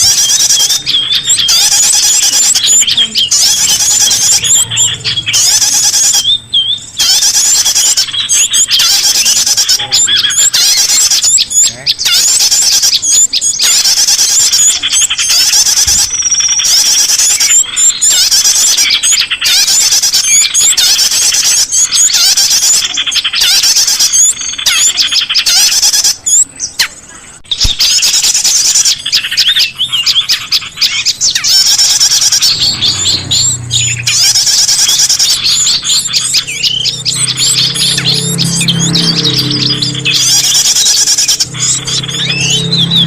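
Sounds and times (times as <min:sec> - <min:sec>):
small birds chirping and trilling: 0:00.0 - 0:43.0.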